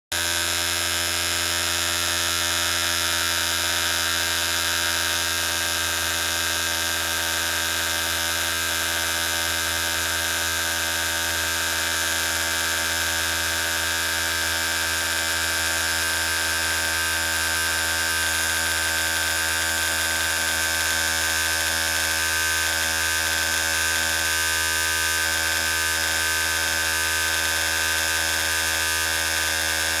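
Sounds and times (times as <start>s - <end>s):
electric hair clippers buzzing: 0.1s - 30.0s.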